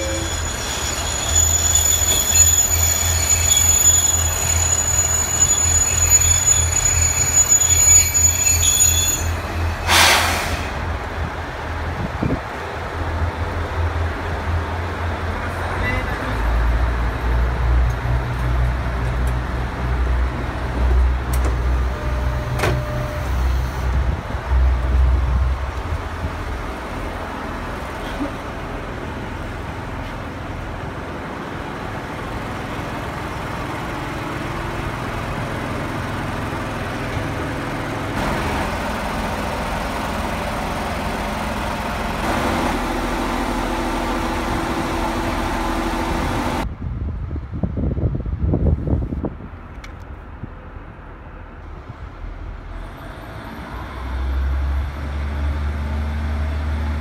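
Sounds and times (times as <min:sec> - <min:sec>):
diesel railcar engine rumbling: 0:00.0 - 0:57.0.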